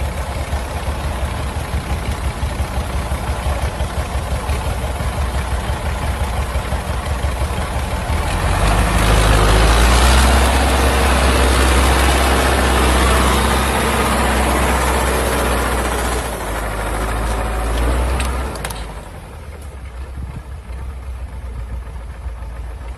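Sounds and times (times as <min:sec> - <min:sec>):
old tractor engine running: 0:00.0 - 0:22.9.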